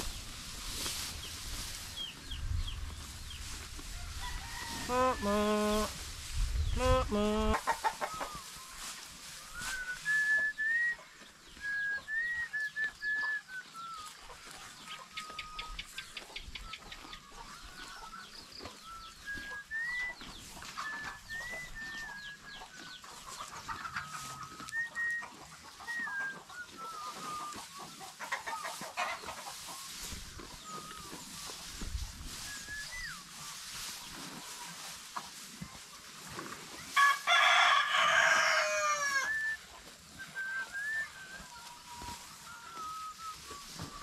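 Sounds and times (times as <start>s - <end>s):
chickens calling: 0.0s - 44.0s
chickens clucking: 0.0s - 44.0s.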